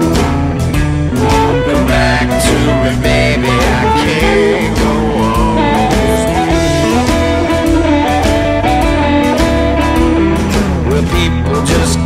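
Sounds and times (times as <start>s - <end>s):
bass line: 0.0s - 12.0s
blues guitar lead: 0.0s - 12.0s
drum hits: 0.0s - 12.0s.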